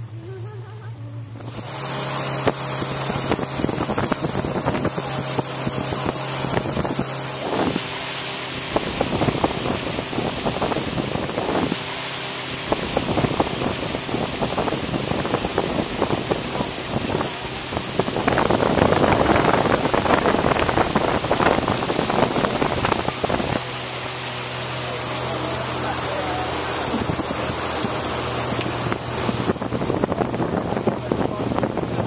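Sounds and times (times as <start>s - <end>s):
boat engine hum: 0.0s - 32.0s
water rushing past hull: 1.4s - 32.0s
wind buffeting microphone: 1.5s - 7.8s, 8.6s - 11.8s, 12.7s - 32.0s.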